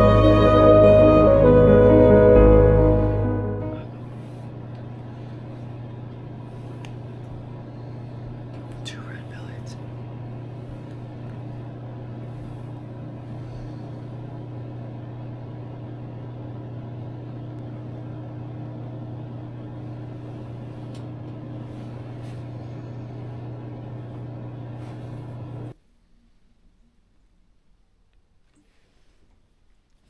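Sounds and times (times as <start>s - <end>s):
low machine hum: 0.0s - 25.8s.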